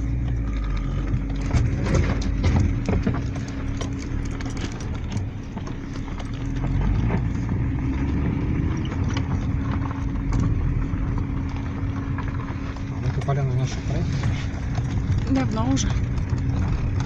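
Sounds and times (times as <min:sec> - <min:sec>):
car engine and tyres humming: 0:00.0 - 0:17.0
small knocks and rattles: 0:00.2 - 0:17.0.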